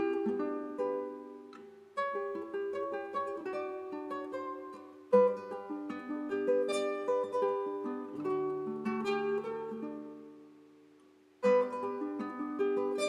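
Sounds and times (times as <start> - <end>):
plucked-string background music: 0.0 - 10.8, 11.4 - 13.0.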